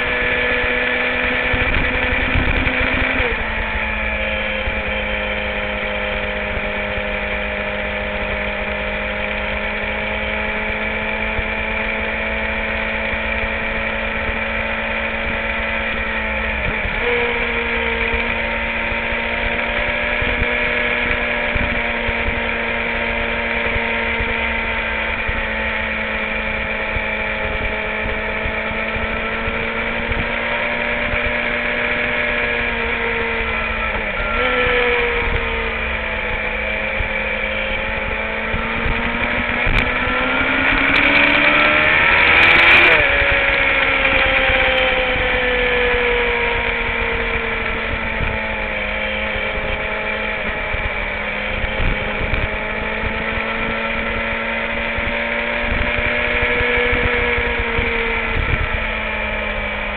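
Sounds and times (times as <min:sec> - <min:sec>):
wind rumble on microphone: 0:00.0 - 0:09.0, 0:15.2 - 0:59.9
motorcycle engine cruising: 0:00.0 - 0:59.9.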